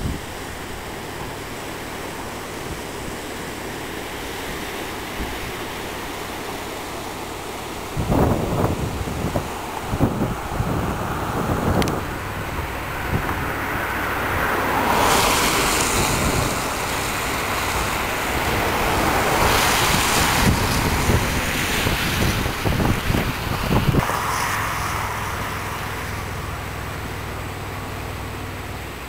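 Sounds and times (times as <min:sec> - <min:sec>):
wind buffeting microphone: 0:00.0 - 0:03.6, 0:04.5 - 0:28.6
outdoor rush of noise: 0:00.0 - 0:29.0.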